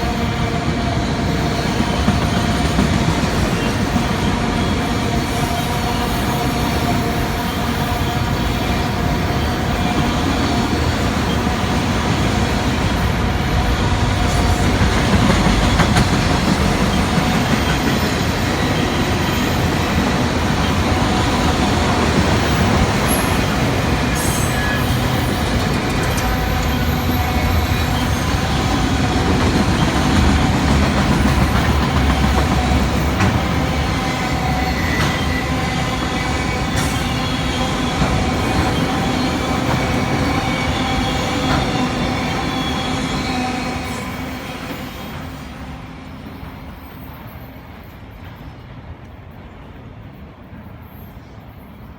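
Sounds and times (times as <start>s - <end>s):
freight train rumbling past: 0.0s - 51.9s
train wheel squeal: 0.0s - 51.9s.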